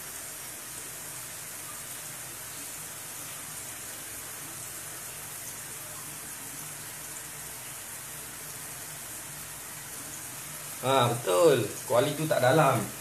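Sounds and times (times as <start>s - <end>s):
paste sizzling in oil: 0.0s - 13.0s.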